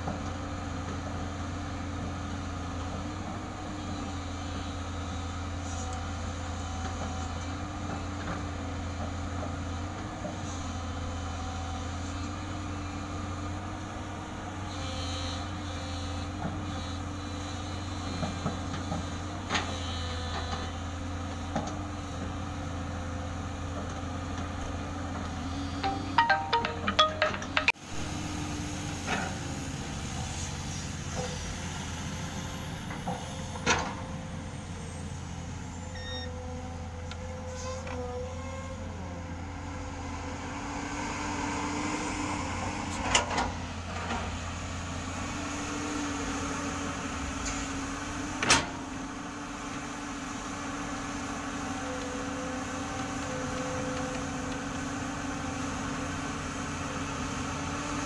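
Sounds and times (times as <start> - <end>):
diesel machinery droning: 0.0 - 58.0.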